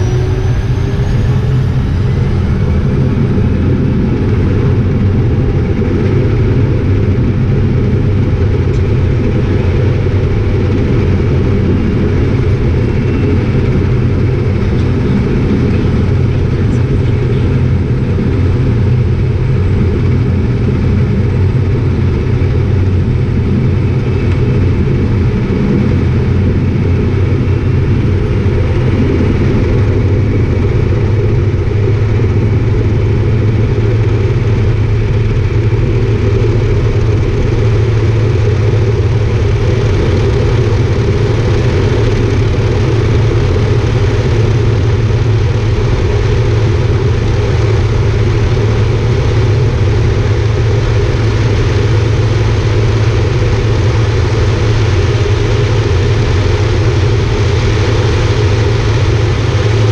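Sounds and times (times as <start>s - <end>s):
turboprop engine loud drone: 0.0s - 59.9s.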